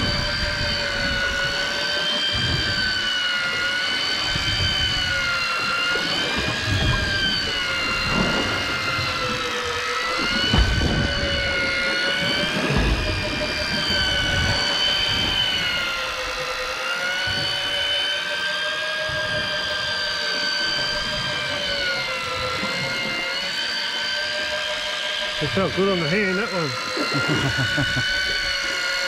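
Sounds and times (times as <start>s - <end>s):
fishing reel motor whining: 0.0s - 29.0s.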